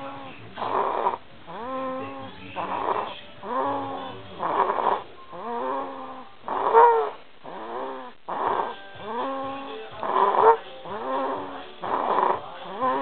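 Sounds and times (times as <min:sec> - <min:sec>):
loud rasping snoring: 0:00.0 - 0:13.0
pitched moaning tones: 0:00.0 - 0:13.0.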